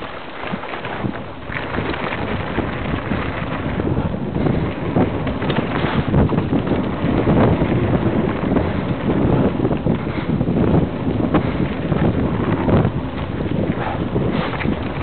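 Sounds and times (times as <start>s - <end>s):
bike rattling over bumps: 0.0s - 15.0s
wind on microphone: 0.0s - 15.0s.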